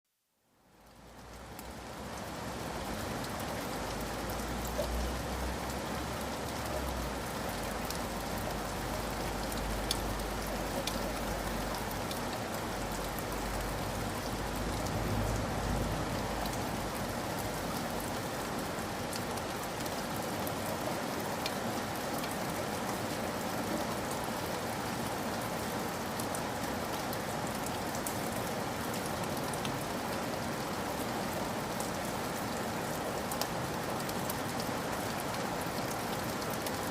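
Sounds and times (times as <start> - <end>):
steady rain hiss: 0.1 - 36.9.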